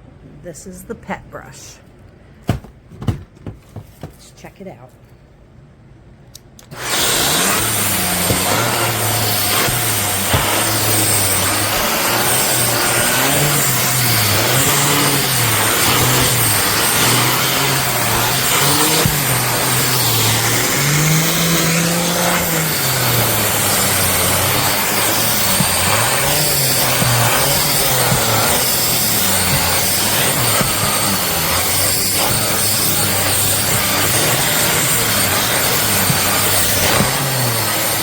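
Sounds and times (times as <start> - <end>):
upright vacuum running: 6.6 - 38.0.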